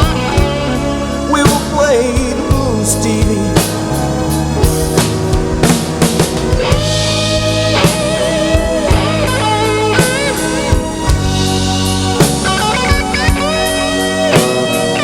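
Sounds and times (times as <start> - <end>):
bass: 0.0 - 15.0
drum kit: 0.0 - 15.0
lead guitar bending notes: 0.0 - 15.0.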